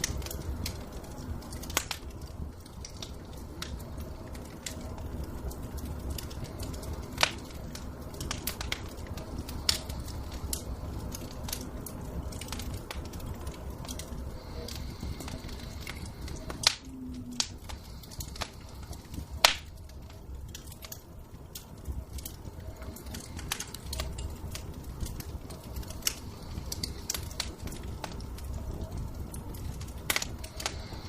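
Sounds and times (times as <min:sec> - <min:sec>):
low steady rumble: 0:00.0 - 0:31.0
wood fire crackling and popping: 0:00.0 - 0:31.0.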